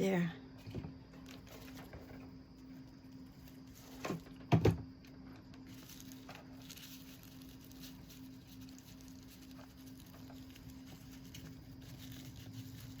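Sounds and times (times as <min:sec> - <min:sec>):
steady low hum: 0:00.0 - 0:13.0
dry straw rustling: 0:01.2 - 0:04.4, 0:05.4 - 0:13.0.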